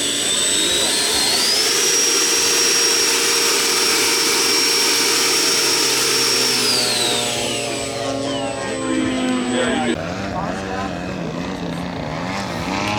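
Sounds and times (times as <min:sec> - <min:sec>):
model jet whine: 0:00.0 - 0:12.9.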